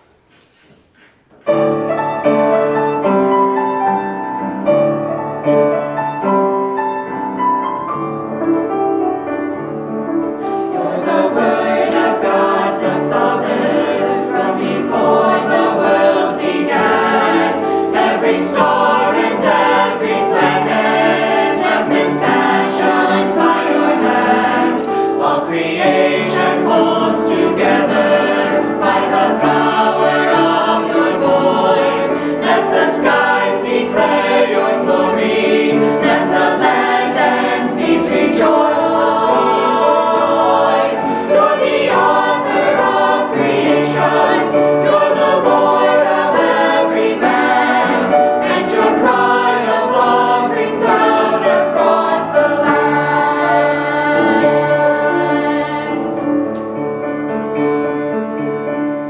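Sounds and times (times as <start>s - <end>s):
mixed choir singing a hymn: 10.3s - 58.4s.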